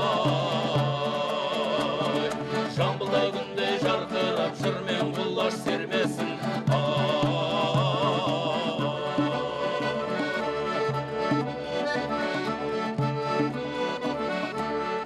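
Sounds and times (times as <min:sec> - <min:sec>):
folk music with singing: 0:00.0 - 0:15.0.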